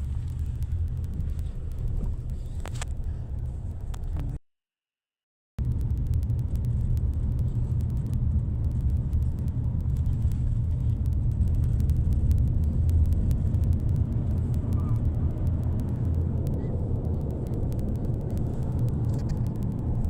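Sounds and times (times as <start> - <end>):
faint rapid clicks: 0.0 - 4.4, 5.6 - 20.0
moving vehicle rumble: 0.0 - 4.4, 5.6 - 20.0.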